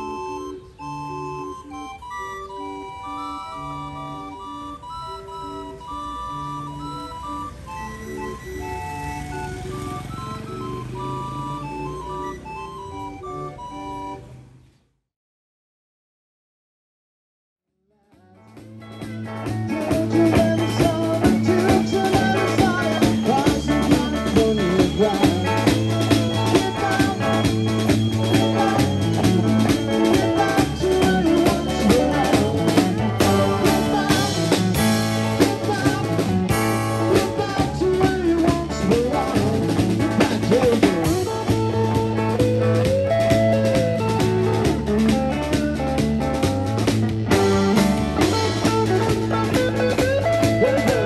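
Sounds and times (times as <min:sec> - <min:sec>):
live band playing upbeat tune: 0:00.0 - 0:14.3, 0:18.3 - 0:51.0.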